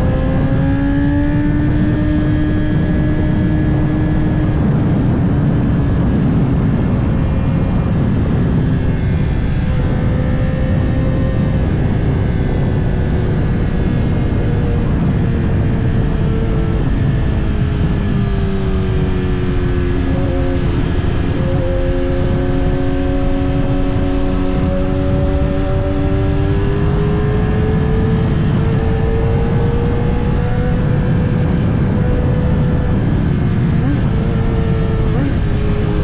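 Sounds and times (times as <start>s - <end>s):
motorcycle engine: 0.0s - 36.0s
wind rushing over microphone: 0.0s - 36.0s.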